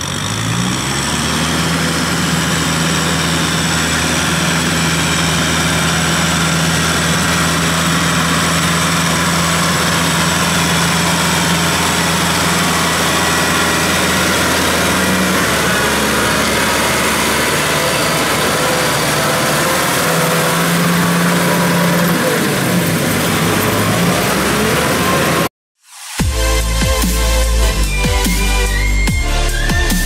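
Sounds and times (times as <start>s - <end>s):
tractor diesel engine running: 0.0s - 25.5s.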